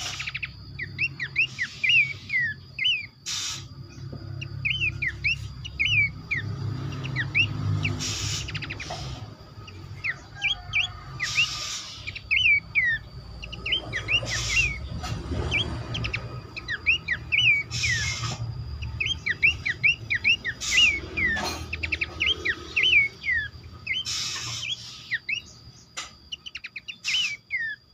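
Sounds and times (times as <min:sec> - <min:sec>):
birds chirping: 0:00.0 - 0:27.9
thin high whine: 0:00.0 - 0:27.9.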